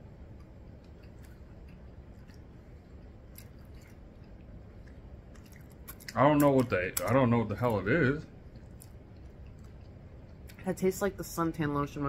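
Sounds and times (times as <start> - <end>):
chewing soft snack: 0.0 - 10.8
low steady room hum: 0.0 - 12.0.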